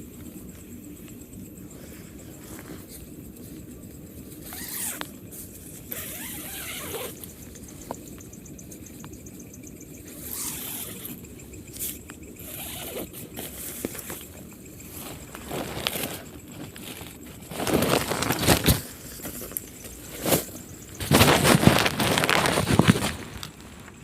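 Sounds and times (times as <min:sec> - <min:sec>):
camping gear rustling and scraping: 0:00.3 - 0:08.9, 0:10.0 - 0:24.0.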